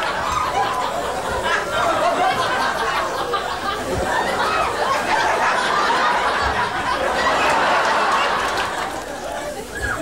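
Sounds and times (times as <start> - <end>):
crowd laughing: 0.0 - 10.0.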